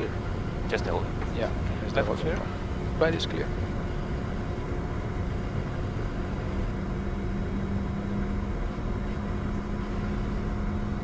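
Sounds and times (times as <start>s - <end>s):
air-conditioning rushing hum: 0.0s - 11.0s
jet engines idling: 0.0s - 11.0s.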